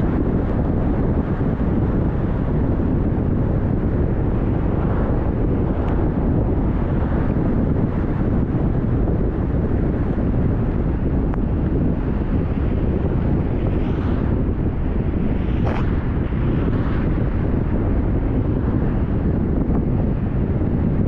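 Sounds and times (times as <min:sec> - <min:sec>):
moving vehicle rumble: 0:00.0 - 0:21.0
wind buffeting microphone: 0:00.0 - 0:21.0.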